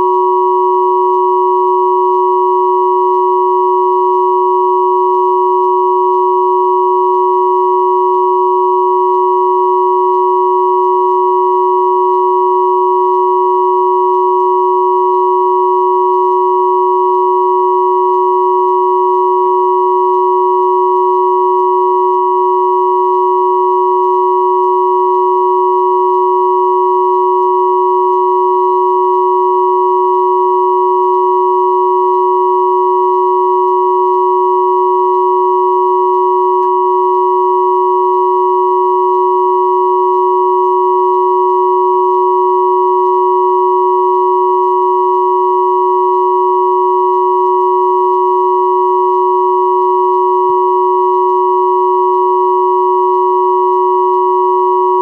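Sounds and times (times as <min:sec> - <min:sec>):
steady electronic sine tone chord: 0:00.0 - 0:55.0.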